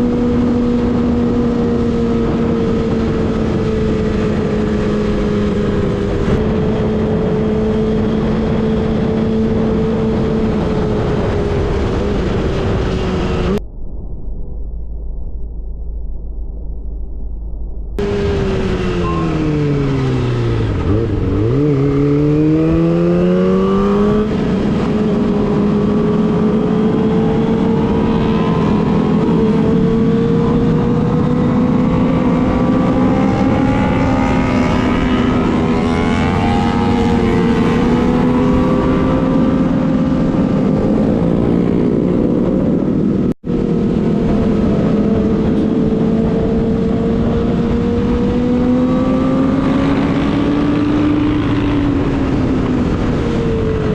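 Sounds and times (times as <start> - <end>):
motorcycle engine revving: 0.0 - 13.6, 18.0 - 53.9.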